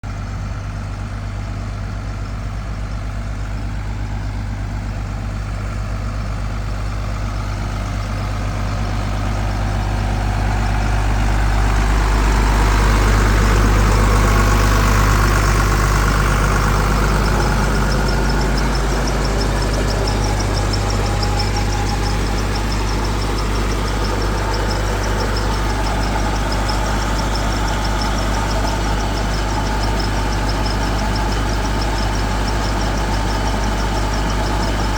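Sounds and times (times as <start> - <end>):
water pump engine humming: 0.0 - 34.9.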